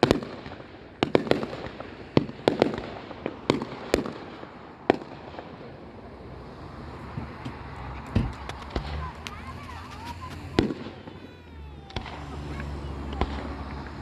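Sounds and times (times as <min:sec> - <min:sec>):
fireworks bangs and pops: 0:00.1 - 0:14.0.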